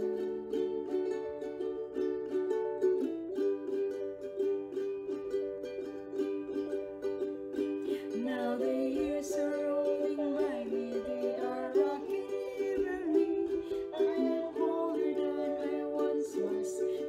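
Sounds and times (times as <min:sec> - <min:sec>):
strummed ukulele music: 0:00.0 - 0:17.0.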